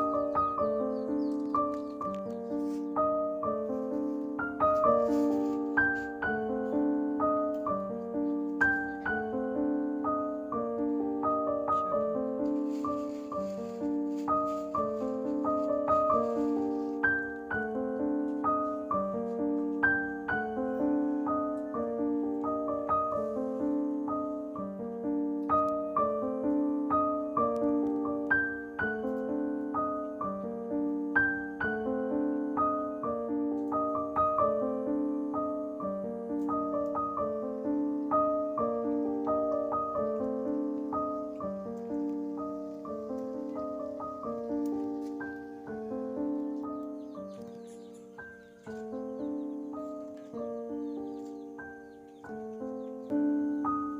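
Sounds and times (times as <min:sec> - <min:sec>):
gentle piano music: 0:00.0 - 0:53.9.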